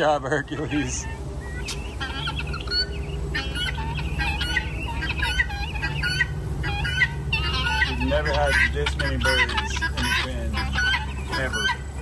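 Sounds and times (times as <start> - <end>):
poultry clucking and squawking: 0.0 - 12.0
steady low rumble: 0.0 - 12.0.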